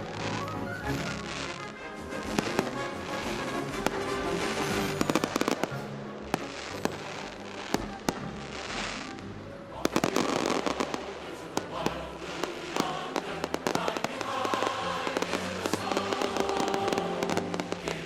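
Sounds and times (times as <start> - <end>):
fireworks bangs: 0.0 - 9.2, 9.8 - 18.0
music: 0.0 - 18.0.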